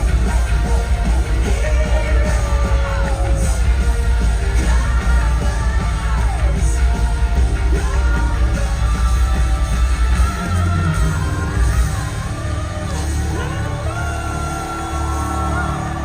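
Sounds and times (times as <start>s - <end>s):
bass guitar: 0.0s - 16.0s
heavy drums: 0.0s - 16.0s
woman singing: 0.0s - 16.0s.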